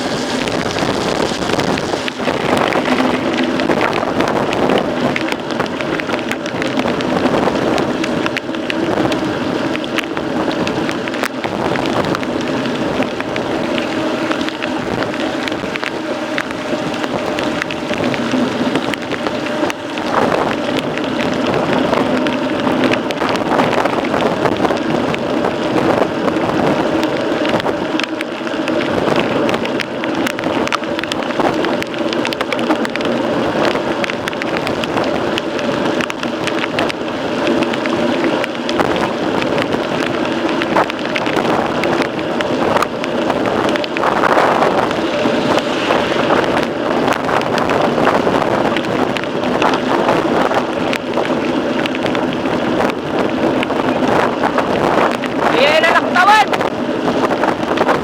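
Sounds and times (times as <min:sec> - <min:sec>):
bike rattling and clicking: 0:00.0 - 0:55.8, 0:56.7 - 0:58.0
steady hum: 0:00.0 - 0:57.6.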